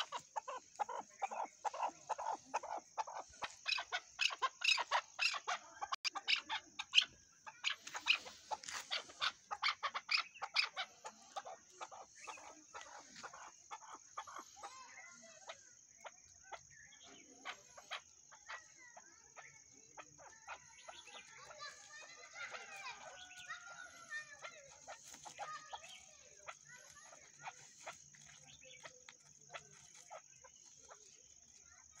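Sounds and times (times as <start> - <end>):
partridge clucking calls: 0.0 - 32.0.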